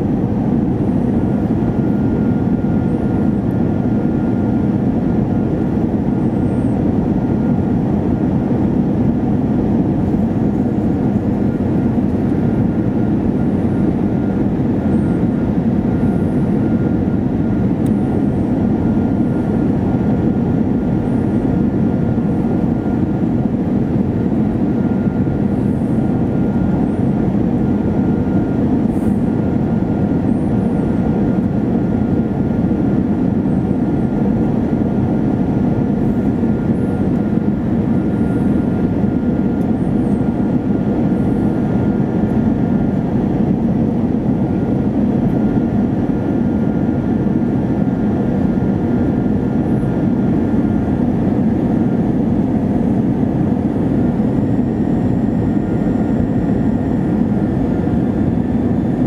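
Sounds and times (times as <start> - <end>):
jet engine cabin rush: 0.0 - 59.0.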